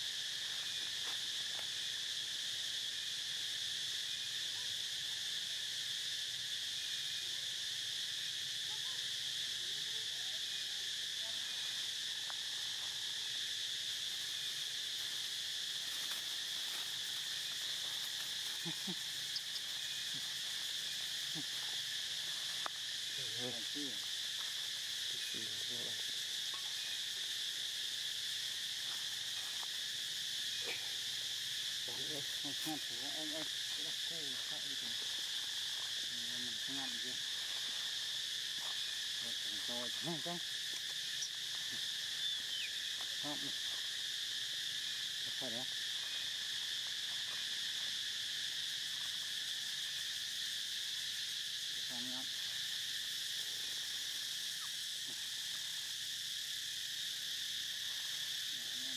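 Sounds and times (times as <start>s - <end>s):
insects buzzing: 0.0s - 58.9s.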